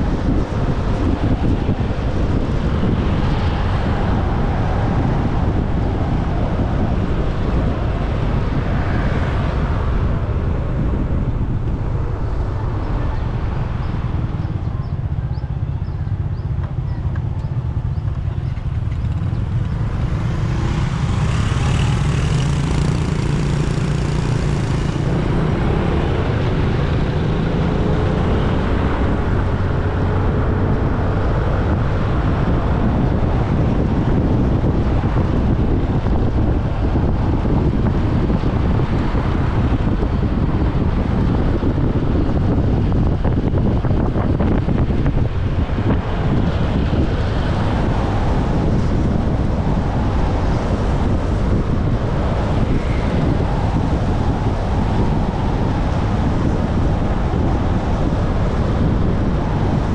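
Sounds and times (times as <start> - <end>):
road and traffic noise: 0.0 - 59.9
wind rumble on microphone: 0.0 - 59.9.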